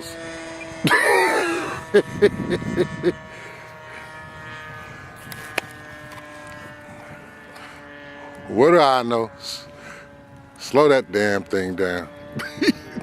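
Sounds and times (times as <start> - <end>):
model plane engine buzzing: 0.0 - 13.0.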